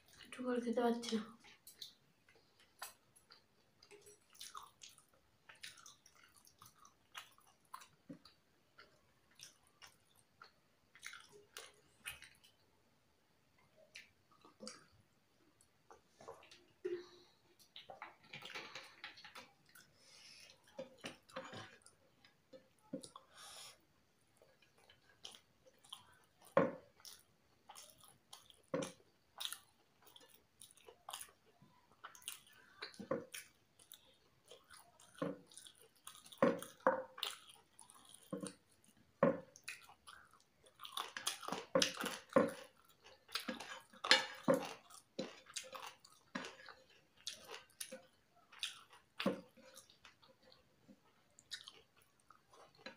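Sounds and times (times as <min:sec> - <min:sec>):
chewing with wet mouth smacks: 0:01.4 - 0:12.6, 0:13.6 - 0:16.9, 0:24.4 - 0:52.9.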